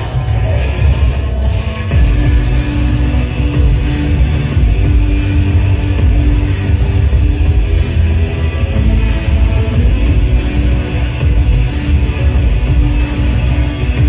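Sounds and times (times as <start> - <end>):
distorted electric guitar: 0.0 - 14.0
drums: 0.0 - 14.0
heavy booming bass: 0.0 - 14.0
keyboards: 0.0 - 14.0
live industrial rock band: 0.0 - 14.0.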